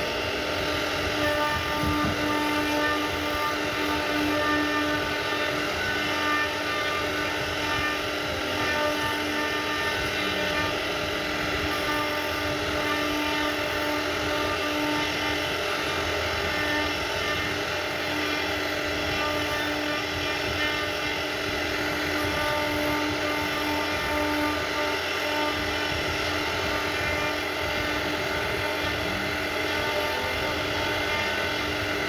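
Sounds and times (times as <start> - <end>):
router spindle whine: 0.0 - 32.0
wood cutting noise: 0.0 - 32.0.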